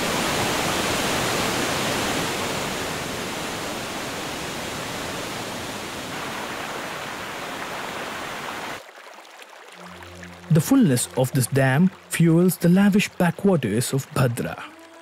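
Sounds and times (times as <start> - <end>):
heavy water rushing: 0.0 - 8.9, 9.8 - 15.0.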